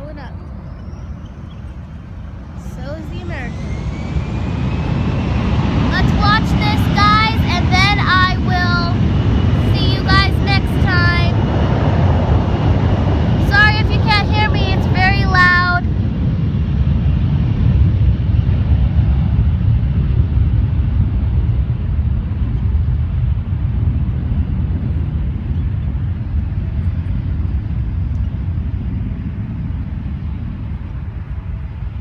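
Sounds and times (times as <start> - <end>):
jet airliner engines roaring: 0.0 - 32.0.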